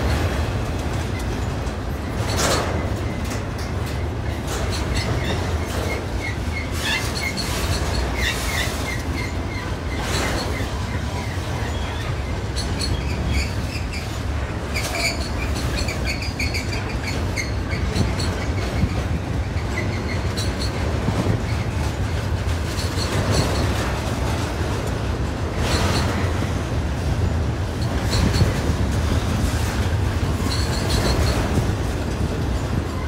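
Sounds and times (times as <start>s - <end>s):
clicks over rail joints: 0.0s - 33.0s
freight cars rumbling on rails: 0.0s - 33.0s.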